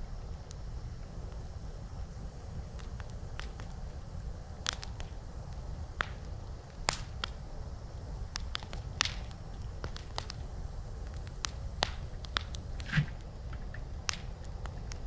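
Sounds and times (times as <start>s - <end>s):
campfire wood crackling: 0.0s - 15.0s
steady low rumble: 0.0s - 15.0s
sharp fire pops: 0.2s - 15.0s.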